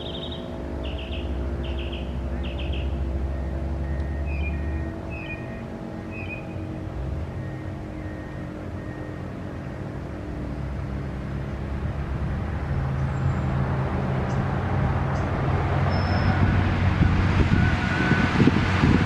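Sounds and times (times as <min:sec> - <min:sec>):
road vehicle approaching: 0:00.0 - 0:19.0.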